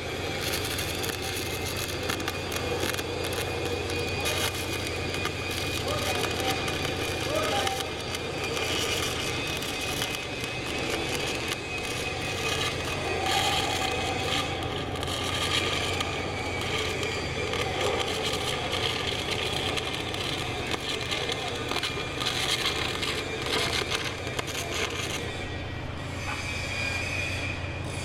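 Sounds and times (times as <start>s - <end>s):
welding arc crackling: 0.0s - 28.0s.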